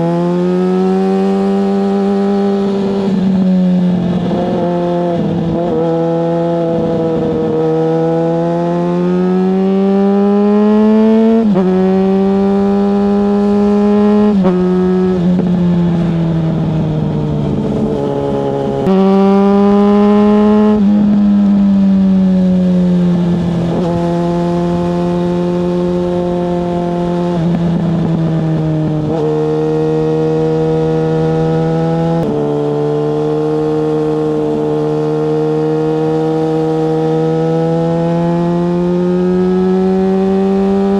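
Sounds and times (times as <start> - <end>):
motorcycle engine changing gears: 0.0 - 40.9.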